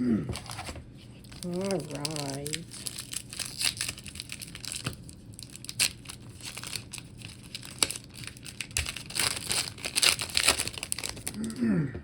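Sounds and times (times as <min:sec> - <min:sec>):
foil wrapper crinkling: 0:00.4 - 0:11.6.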